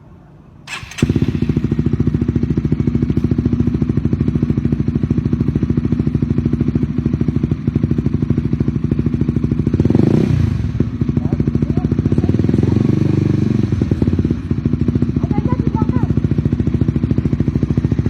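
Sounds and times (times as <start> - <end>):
motorcycle engine idling and revving: 0.7 - 18.0.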